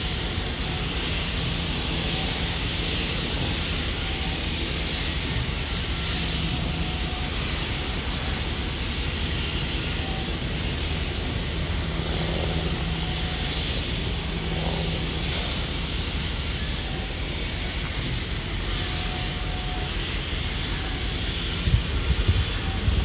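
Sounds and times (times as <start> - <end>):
steam locomotive hiss and rumble: 0.0 - 23.0.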